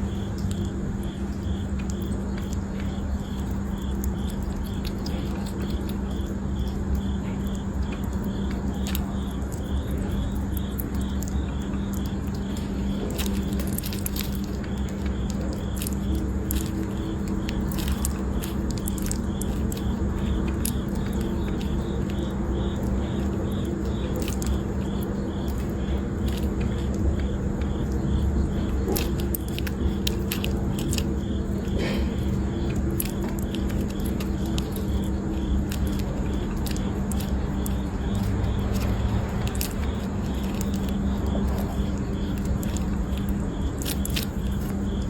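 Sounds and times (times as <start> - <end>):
small pet crunching food: 0.0 - 45.0
steady low hum: 0.0 - 45.0.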